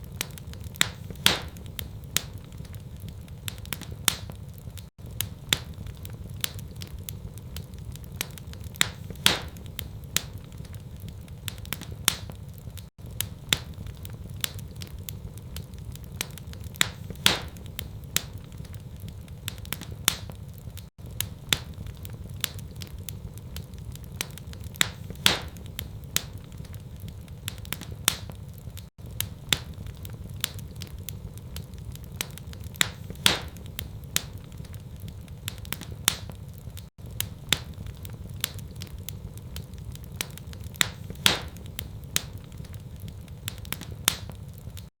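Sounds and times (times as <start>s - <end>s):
fire low rumble: 0.0s - 44.9s
wood fire crackling and popping: 0.0s - 44.9s.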